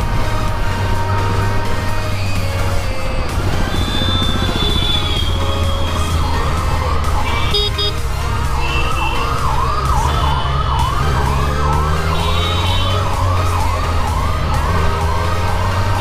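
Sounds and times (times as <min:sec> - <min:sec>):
motor droning: 0:00.0 - 0:16.0
siren wailing: 0:00.0 - 0:16.0.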